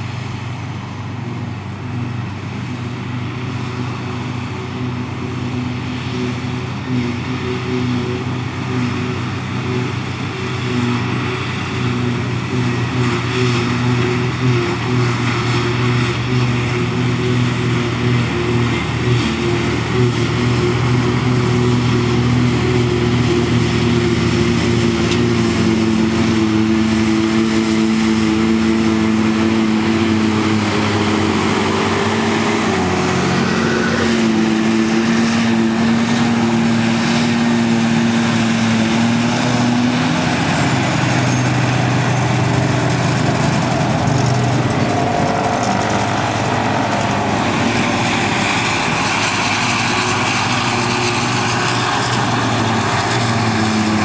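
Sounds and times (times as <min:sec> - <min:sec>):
heavy engine drone: 0:00.0 - 0:54.0
tractor running: 0:00.0 - 0:54.0.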